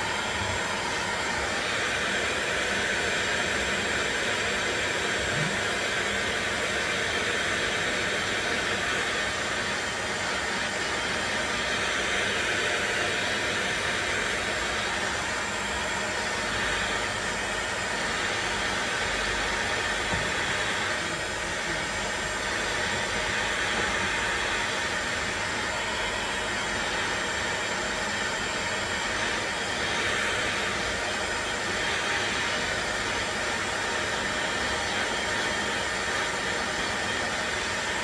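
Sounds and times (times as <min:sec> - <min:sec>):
heat gun hissing: 0:00.0 - 0:38.0.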